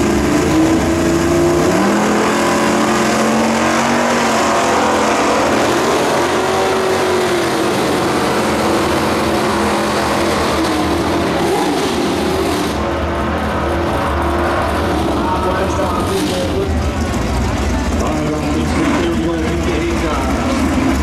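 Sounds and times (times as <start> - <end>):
drag racing cars at full throttle: 0.0 - 21.0.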